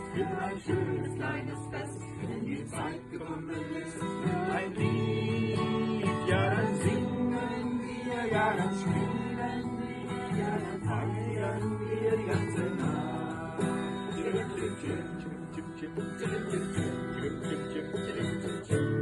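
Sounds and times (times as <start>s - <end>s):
acoustic guitar: 0.0s - 19.0s
person singing: 0.0s - 19.0s.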